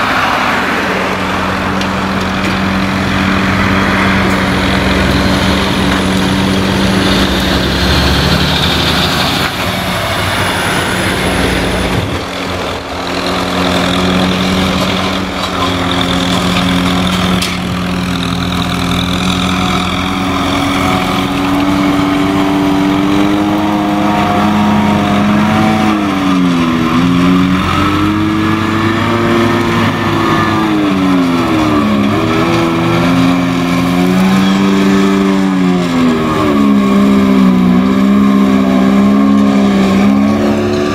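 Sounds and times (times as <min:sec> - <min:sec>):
mulcher machine noise: 0:00.0 - 0:40.9
tractor engine under load: 0:00.0 - 0:40.9.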